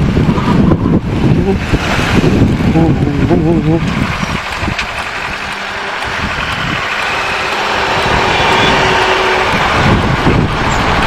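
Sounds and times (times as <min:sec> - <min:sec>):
wind rushing over microphone: 0:00.0 - 0:11.0
motorcycle engine running: 0:01.3 - 0:11.0.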